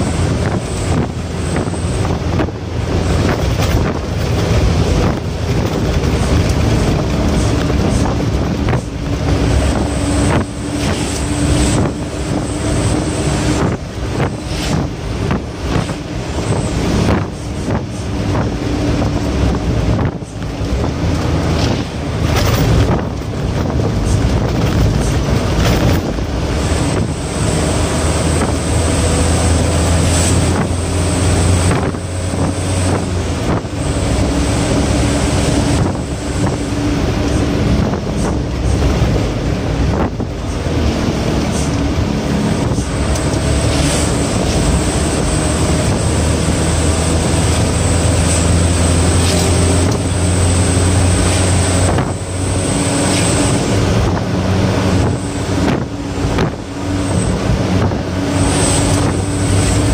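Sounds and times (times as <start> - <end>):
truck engine running hard: 0.0 - 59.9
wind and road noise: 0.0 - 59.9.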